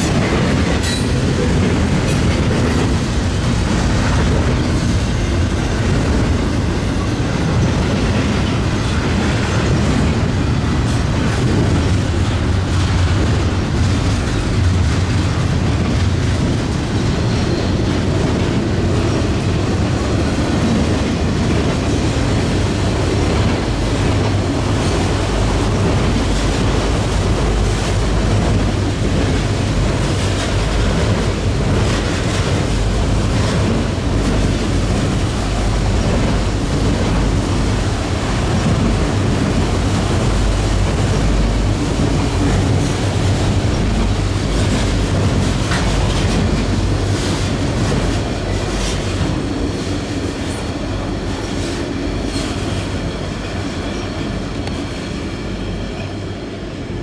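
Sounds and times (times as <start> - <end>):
steel wheels clattering over rail joints: 0.0 - 55.1
freight train rumbling past: 0.0 - 57.0.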